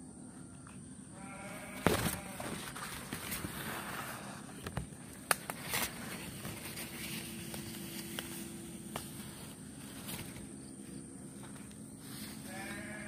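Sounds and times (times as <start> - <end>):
leaves rustling against phone: 1.2 - 13.0.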